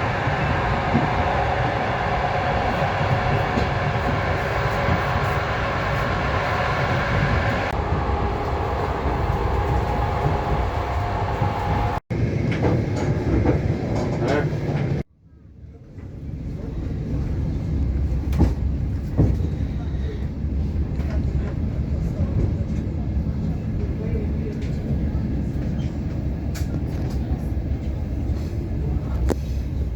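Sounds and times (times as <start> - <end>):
train wheels rumbling on rails: 0.0 - 15.1, 15.8 - 29.9.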